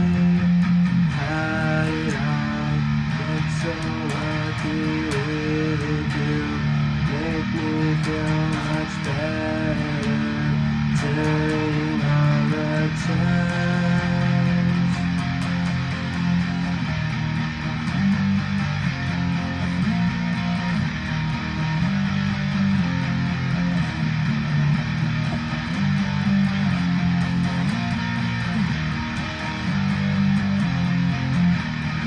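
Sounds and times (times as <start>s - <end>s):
guitar playing chords: 0.0s - 32.0s.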